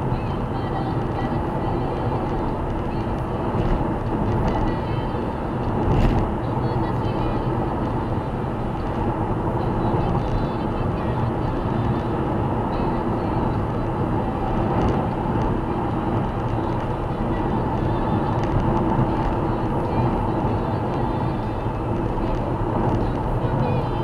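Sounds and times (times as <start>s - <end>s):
car engine drone: 0.0s - 24.0s.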